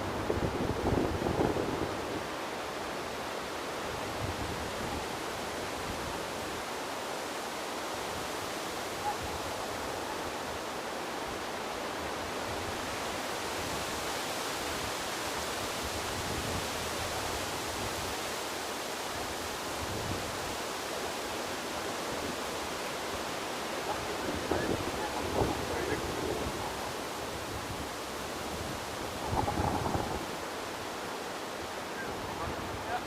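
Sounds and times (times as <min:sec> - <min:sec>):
sea surf rushing on a beach: 0:00.0 - 0:33.0.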